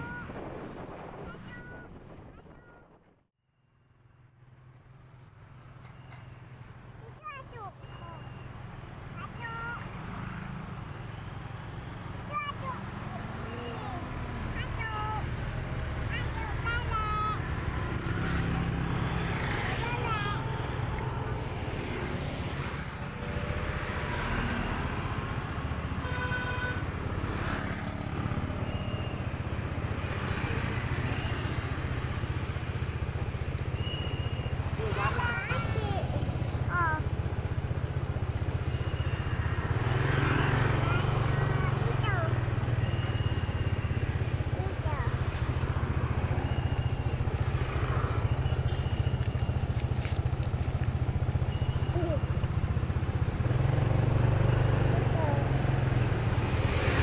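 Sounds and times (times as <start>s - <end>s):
scooter engine running: 7.8s - 57.0s.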